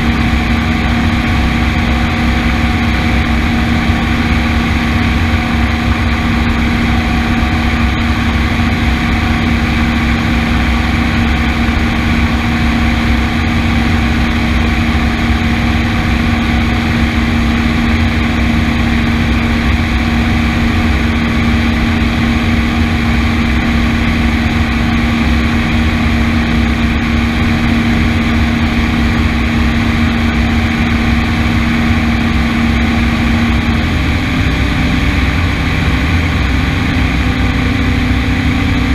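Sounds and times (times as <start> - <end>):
steady mechanical drone: 0.0 - 38.9.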